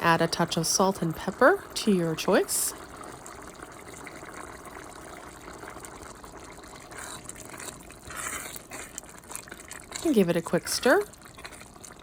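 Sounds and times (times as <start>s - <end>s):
sauce simmering and bubbling: 0.0s - 12.0s.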